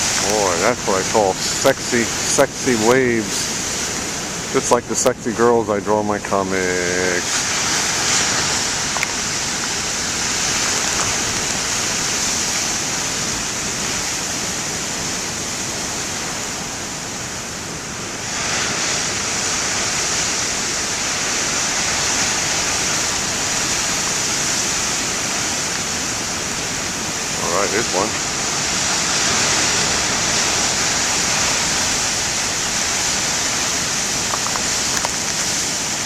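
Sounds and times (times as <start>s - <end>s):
ocean waves breaking: 0.0s - 36.0s.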